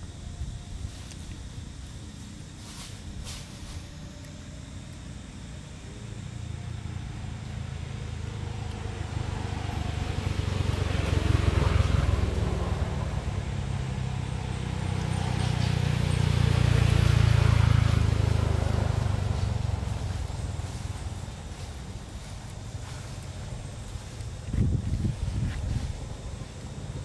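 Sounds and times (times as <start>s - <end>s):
vehicle engine rumble passing: 2.1s - 27.0s.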